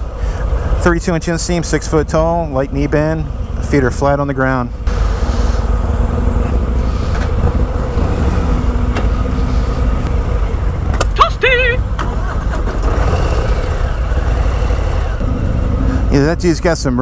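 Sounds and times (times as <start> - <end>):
other motorcycles running: 0.0 - 17.0.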